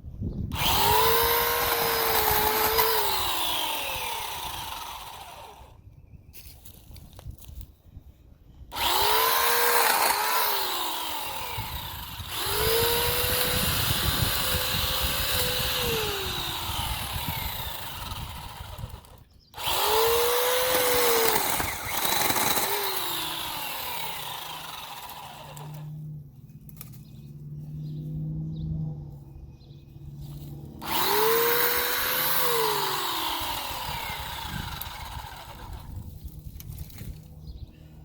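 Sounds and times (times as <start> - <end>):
electric chainsaw cutting branches: 0.5 - 5.8, 8.7 - 27.0, 30.3 - 37.4.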